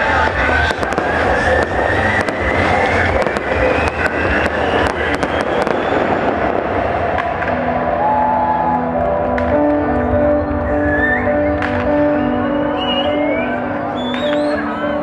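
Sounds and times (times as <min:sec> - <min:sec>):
fireworks crackling and banging: 0:00.0 - 0:08.2, 0:09.1 - 0:12.2, 0:14.0 - 0:15.0.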